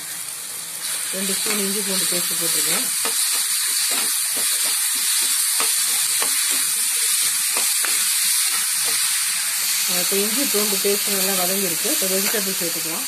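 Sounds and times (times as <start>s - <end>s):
paste frying in hot oil: 0.0s - 13.0s.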